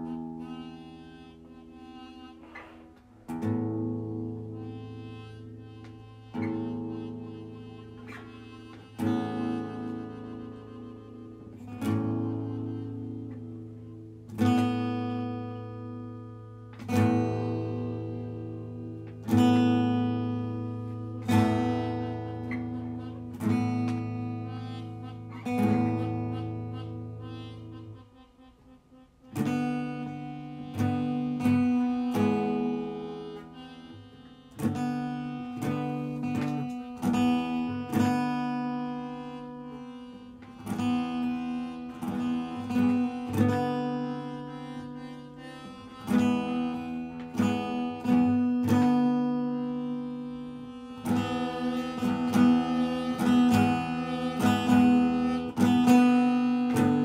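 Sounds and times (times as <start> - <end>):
buzzy acoustic guitar chords: 0.0 - 57.0.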